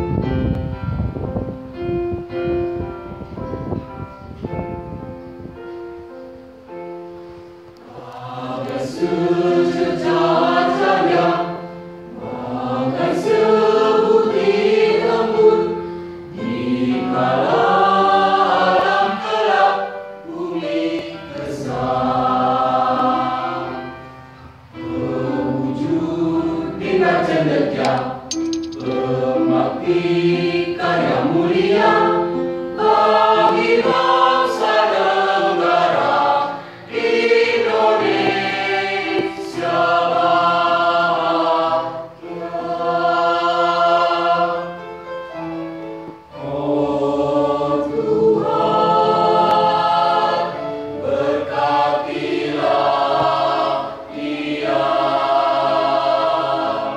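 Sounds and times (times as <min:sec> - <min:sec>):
mixed choir singing: 0:07.8 - 0:56.9.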